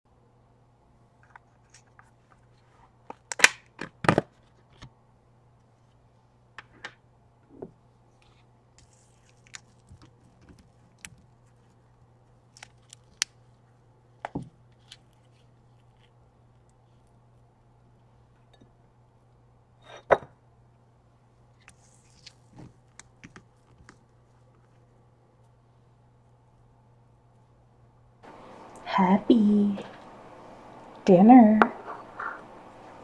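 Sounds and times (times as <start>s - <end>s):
faint steady hum: 0.1s - 33.0s.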